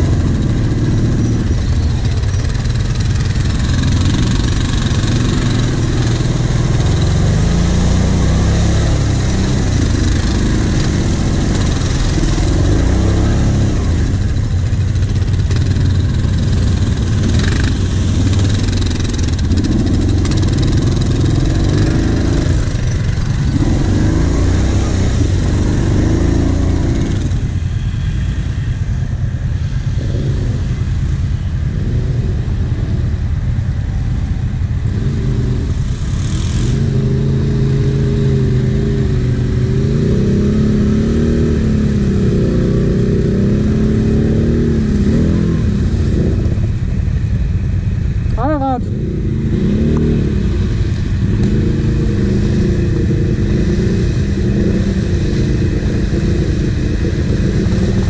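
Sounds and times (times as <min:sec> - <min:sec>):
quad bike engine revving: 0:00.0 - 0:28.6, 0:29.7 - 0:47.0, 0:48.2 - 0:58.0.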